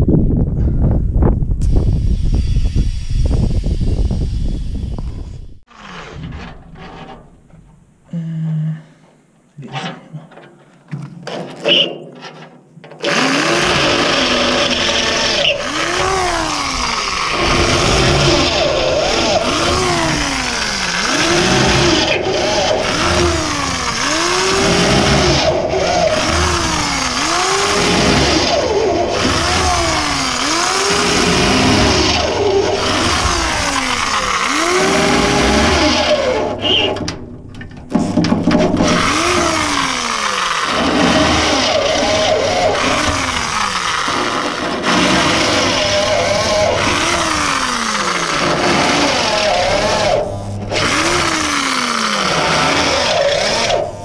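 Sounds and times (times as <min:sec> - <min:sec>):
motor running hard: 0:01.6 - 0:05.6, 0:13.0 - 0:37.0, 0:38.2 - 0:54.0
rough grinding noise: 0:01.6 - 0:07.7, 0:09.6 - 0:54.0.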